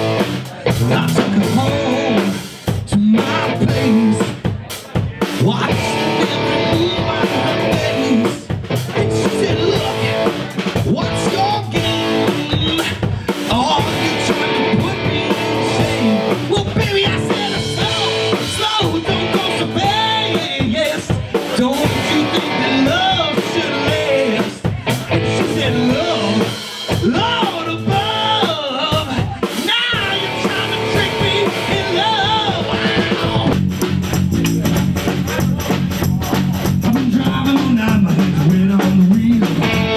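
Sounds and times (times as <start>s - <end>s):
lead vocal singing: 0.0s - 33.6s, 34.4s - 39.9s
bass guitar: 0.0s - 39.9s
drum kit: 0.0s - 39.9s
electric guitar: 0.0s - 39.9s.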